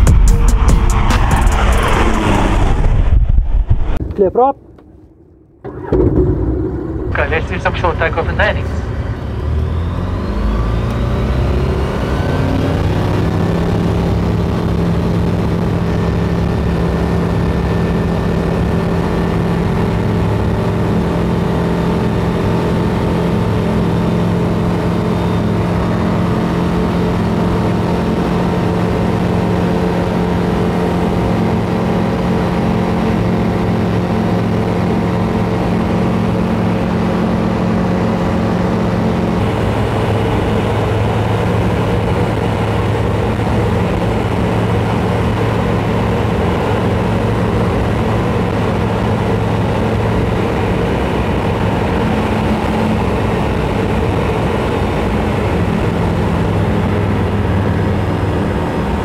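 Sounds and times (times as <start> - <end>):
light aircraft engine at full power: 0.0 - 59.0.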